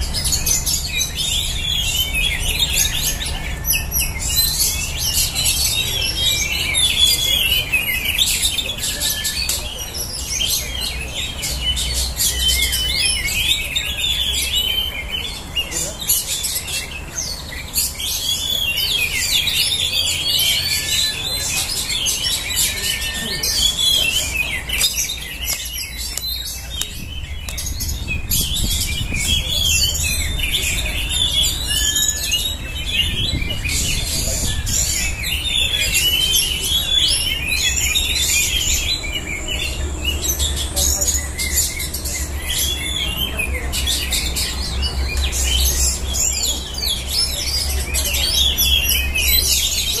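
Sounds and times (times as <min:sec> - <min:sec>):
chorus of birds singing: 0:00.0 - 0:50.0.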